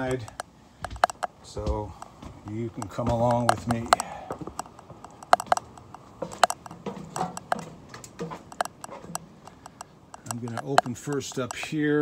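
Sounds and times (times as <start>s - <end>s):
footsteps on steps: 0.0s - 11.8s.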